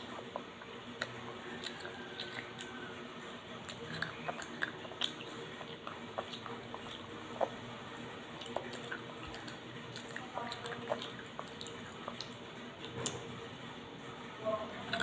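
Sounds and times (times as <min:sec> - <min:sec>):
chewing: 0:00.0 - 0:13.9, 0:14.7 - 0:15.0
low steady hum: 0:00.0 - 0:15.0.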